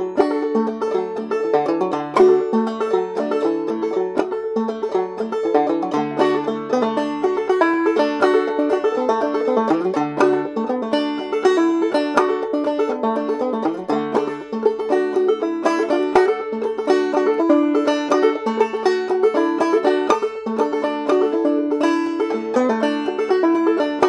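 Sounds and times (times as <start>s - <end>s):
solo banjo: 0.0s - 24.0s.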